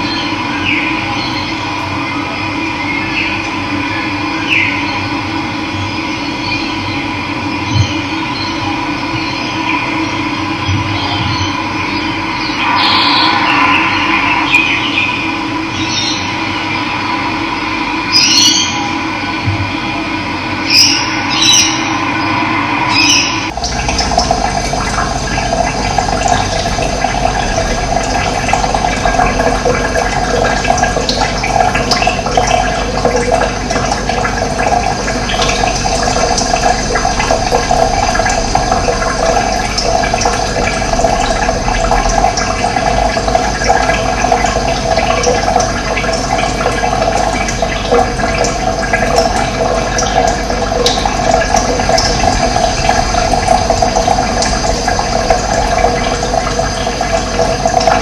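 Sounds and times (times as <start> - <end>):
running water rushing: 9.2 - 58.0.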